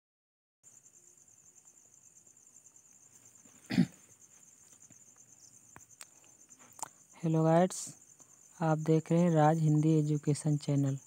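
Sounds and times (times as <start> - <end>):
crickets chirping: 0.6 - 11.0.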